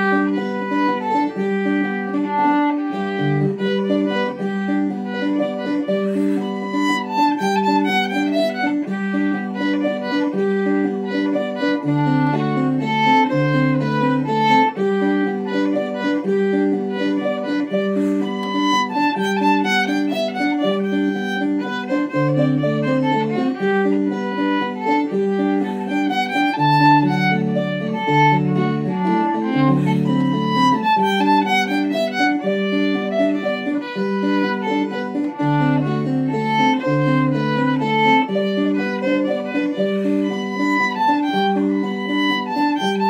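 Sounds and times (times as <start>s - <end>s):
plucked chords: 0.0s - 43.0s
violin playing dance tune: 0.0s - 43.0s.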